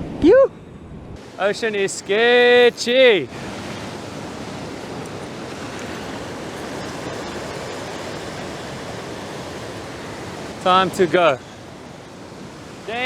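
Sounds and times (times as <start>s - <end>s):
ocean surf washing over rocks: 1.2s - 13.0s.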